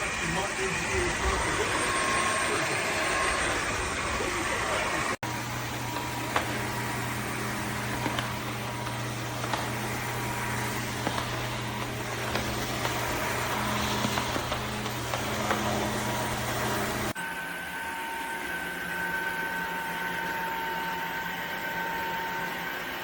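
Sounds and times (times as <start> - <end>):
vacuum motor hum and whine: 0.0 - 23.0.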